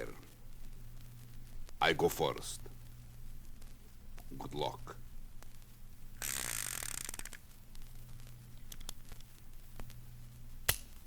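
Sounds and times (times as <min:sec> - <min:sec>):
low steady hum: 0:00.0 - 0:11.0
record surface noise: 0:00.0 - 0:11.0.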